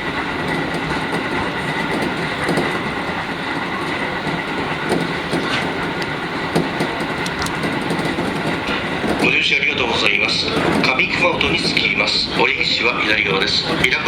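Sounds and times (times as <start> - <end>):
train running on rails: 0.0 - 14.0.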